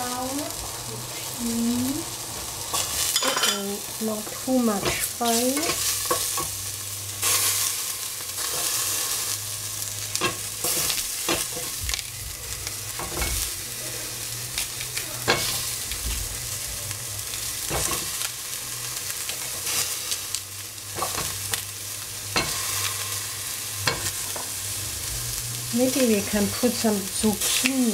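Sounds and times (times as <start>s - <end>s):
vegetables sizzling in oil: 0.0s - 27.9s.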